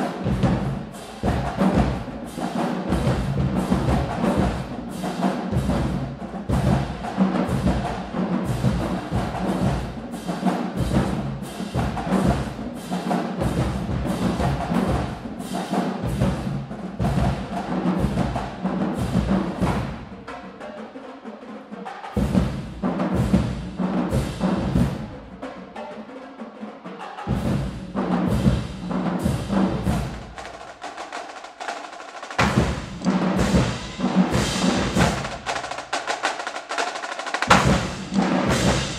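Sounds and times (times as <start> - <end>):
drumline playing a cadence: 0.0 - 20.4, 22.0 - 25.5, 27.2 - 38.9.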